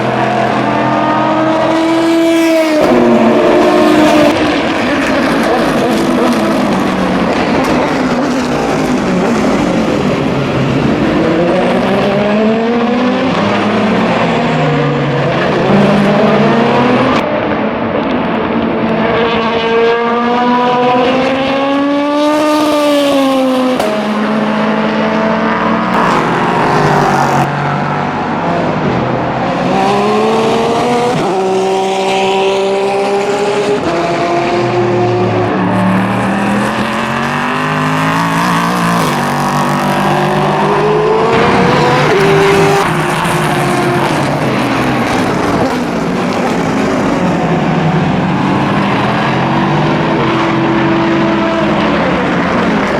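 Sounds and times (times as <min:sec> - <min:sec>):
race car passing close: 0:00.0 - 0:17.9, 0:18.5 - 0:52.9
race car engines at speed: 0:00.0 - 0:52.9.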